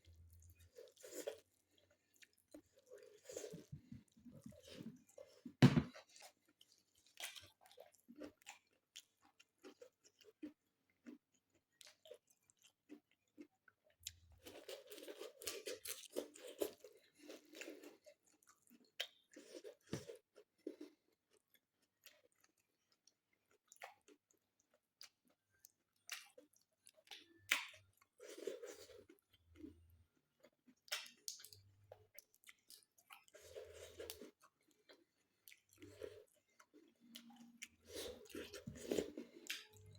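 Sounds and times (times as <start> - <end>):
close chewing with crunches: 0.0 - 39.9.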